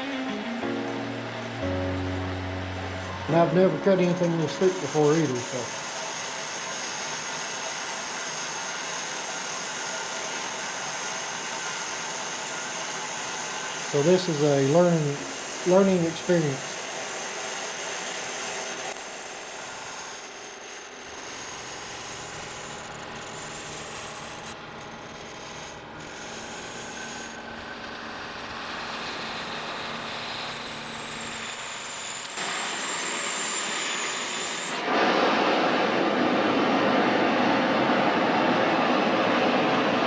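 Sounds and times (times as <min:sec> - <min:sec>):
faint high whine: 0:00.0 - 0:40.0
cutting torch flame hissing: 0:01.6 - 0:40.0.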